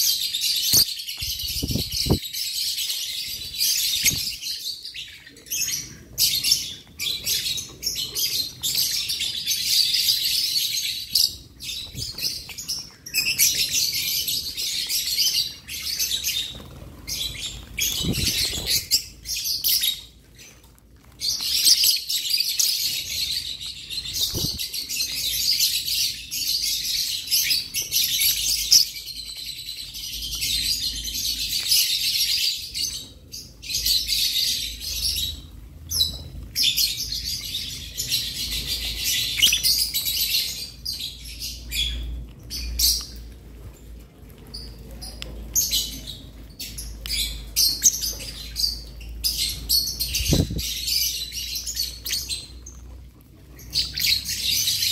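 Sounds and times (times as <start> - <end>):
lovebirds chirping and squeaking: 0.0 - 43.8, 44.4 - 54.9.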